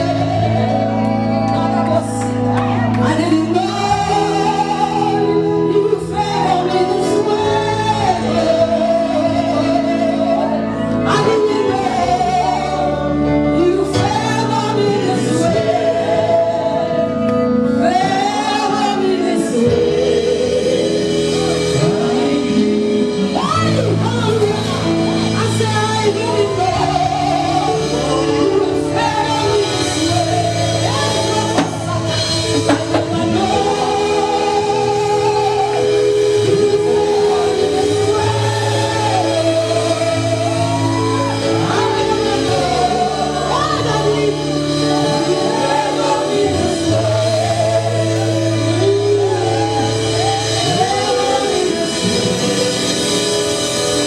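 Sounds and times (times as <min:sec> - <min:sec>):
gospel singing with band: 0:00.0 - 0:54.0.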